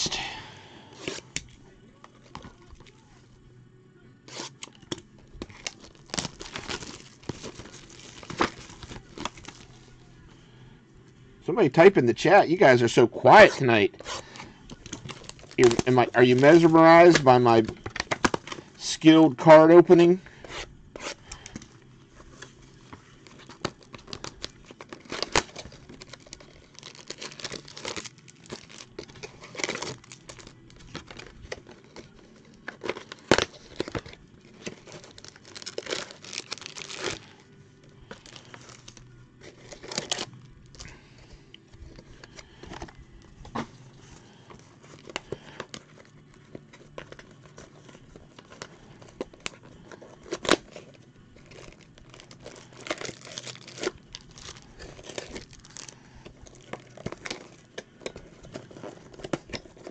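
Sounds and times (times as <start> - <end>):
foil packs crinkling: 5.2 - 10.6, 11.6 - 59.9.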